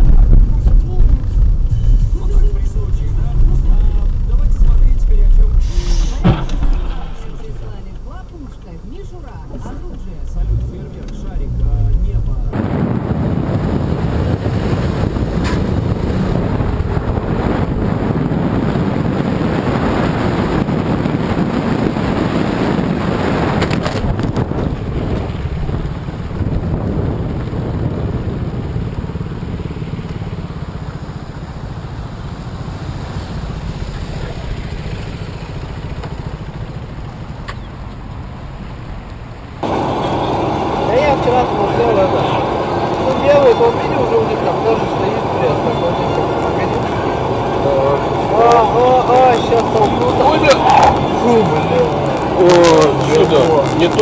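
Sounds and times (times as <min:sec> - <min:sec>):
vehicle driving rumble and hiss: 0:00.0 - 0:54.0.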